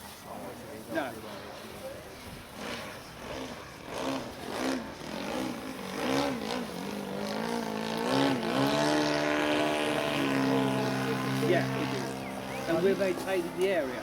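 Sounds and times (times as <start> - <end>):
model aircraft engine revving: 2.4 - 14.0.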